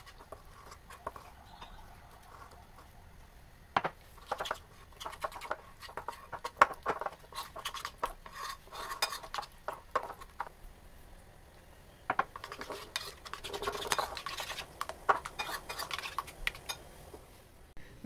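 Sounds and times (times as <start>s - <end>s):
spoon stirring batter in bowl: 0.0s - 3.0s, 4.0s - 10.6s, 12.1s - 17.3s.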